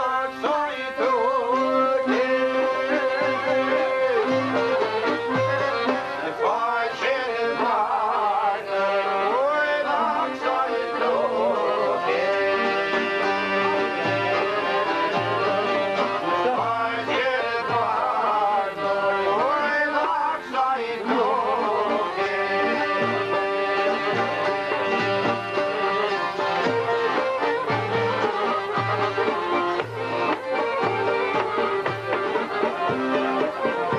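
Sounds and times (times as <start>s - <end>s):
plucked lutes playing folk music: 0.0s - 33.9s.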